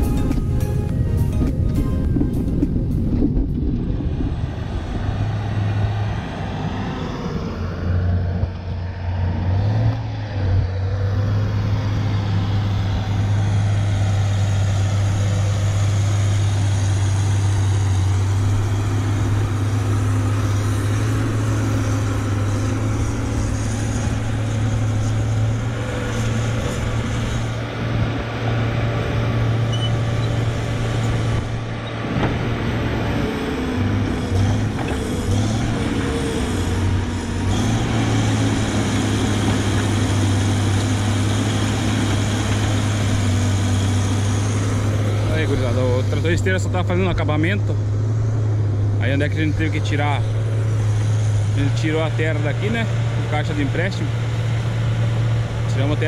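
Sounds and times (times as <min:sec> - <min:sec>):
heavy diesel engine drone: 0:00.0 - 0:56.0.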